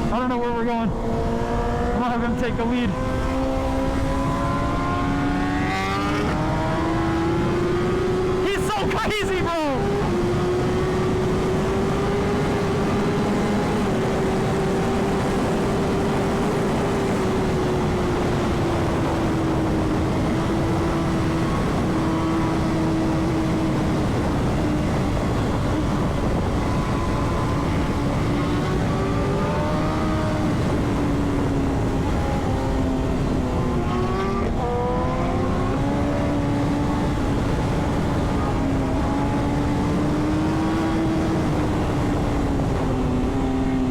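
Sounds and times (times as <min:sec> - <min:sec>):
motorcycle engine cruising: 0:00.0 - 0:43.9
wind rush on microphone: 0:00.0 - 0:43.9.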